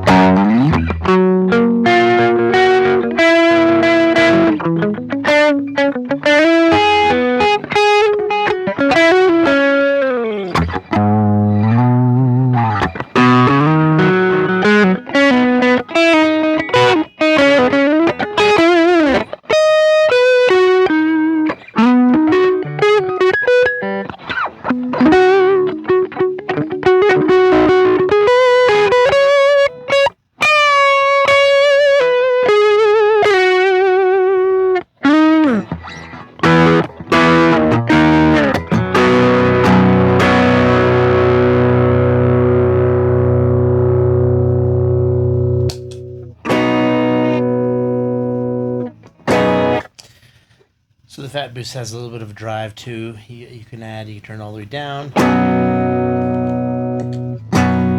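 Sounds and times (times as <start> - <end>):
overdriven electric guitar lead: 0.0 - 50.3, 55.1 - 57.9.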